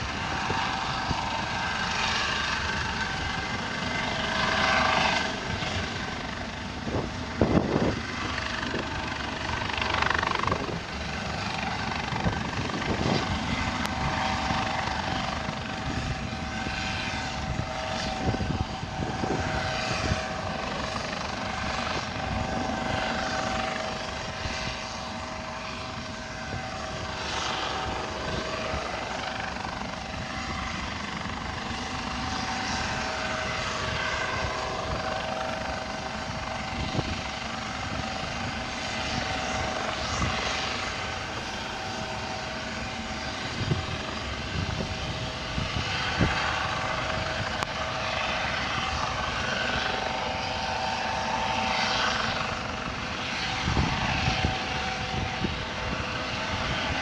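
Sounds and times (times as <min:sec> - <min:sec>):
helicopter engine drone: 0:00.0 - 0:57.0
wind on microphone: 0:00.0 - 0:57.0.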